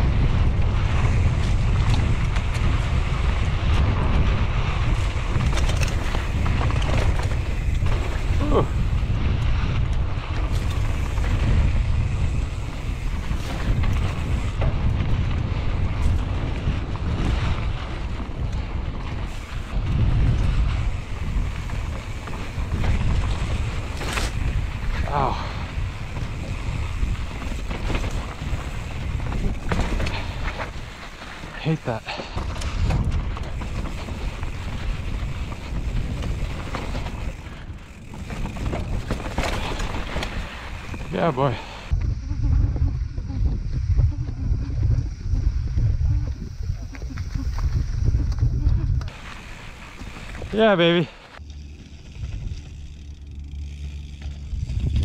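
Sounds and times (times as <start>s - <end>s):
tyres rolling on dirt trail: 0.0s - 55.0s
wind buffeting microphone: 0.0s - 55.0s.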